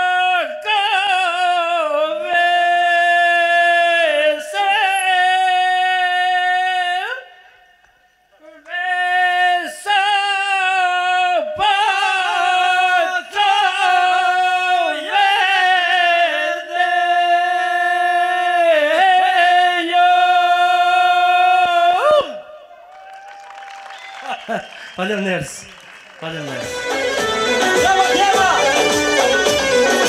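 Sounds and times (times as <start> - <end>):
man singing unaccompanied: 0.0 - 7.5, 8.4 - 22.5, 26.7 - 30.0.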